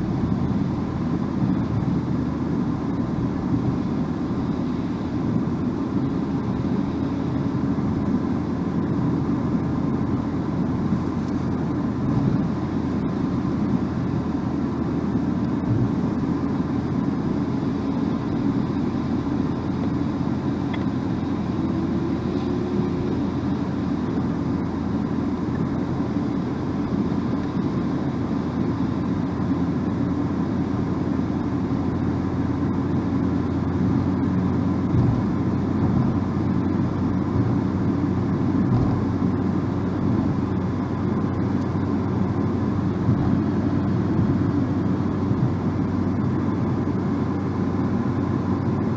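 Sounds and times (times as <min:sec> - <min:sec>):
car interior road noise: 0:00.0 - 0:48.9.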